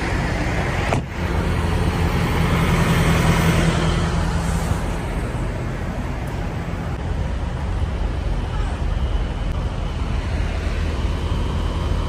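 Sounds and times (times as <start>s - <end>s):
diesel truck engines idling: 0.0s - 12.0s.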